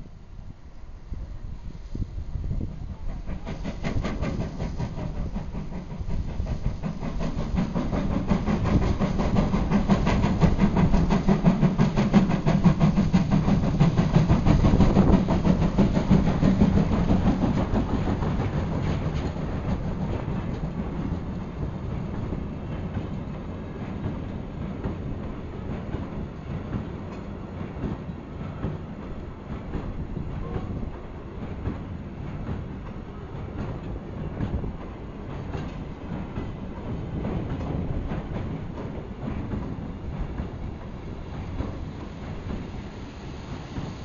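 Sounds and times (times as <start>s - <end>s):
freight train rumble: 0.0s - 44.0s
train wheels clattering over rail joints: 3.0s - 44.0s.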